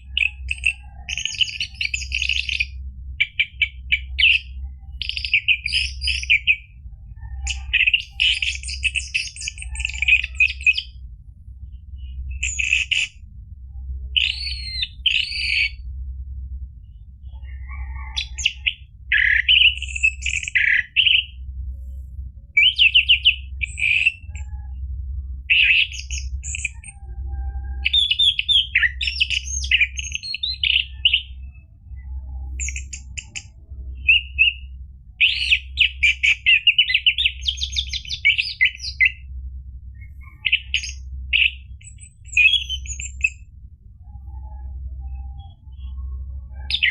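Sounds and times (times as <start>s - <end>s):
thrush singing warbled trills: 0.0s - 16.0s, 16.8s - 46.9s
steady low hum: 0.0s - 46.9s.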